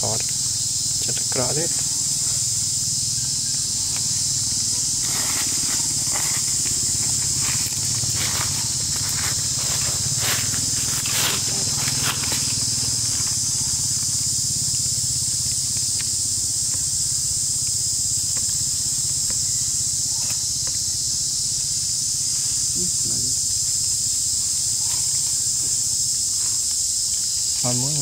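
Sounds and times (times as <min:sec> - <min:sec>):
insect chorus drone: 0:00.0 - 0:28.0.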